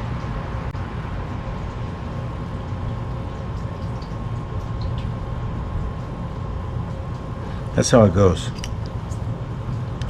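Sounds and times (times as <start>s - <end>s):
faint constant hum: 0.0s - 10.0s
low background rumble: 0.0s - 10.0s.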